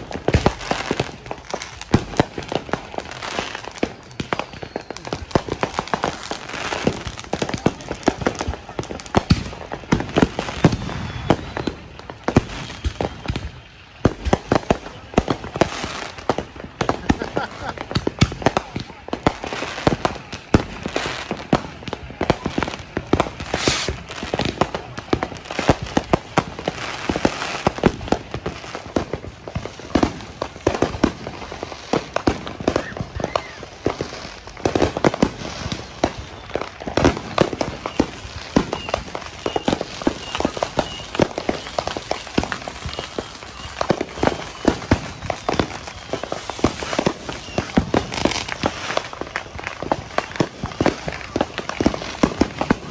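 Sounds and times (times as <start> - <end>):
fireworks banging and crackling: 0.0 - 52.9.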